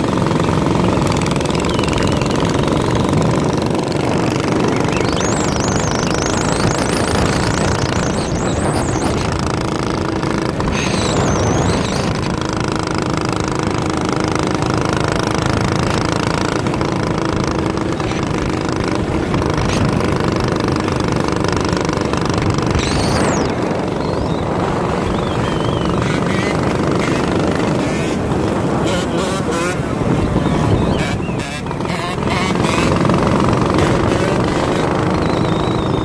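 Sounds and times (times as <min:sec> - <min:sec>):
minibike engine running: 0:00.0 - 0:36.0.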